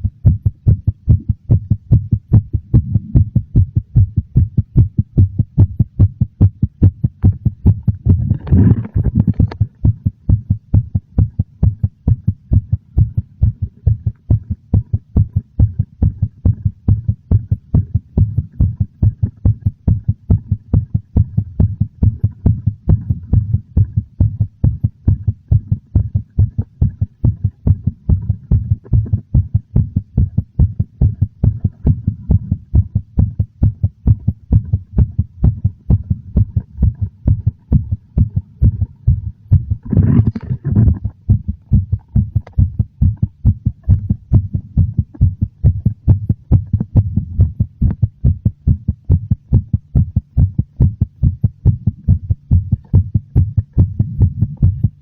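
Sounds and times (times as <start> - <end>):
heartbeat thuds: 0.0 - 55.0.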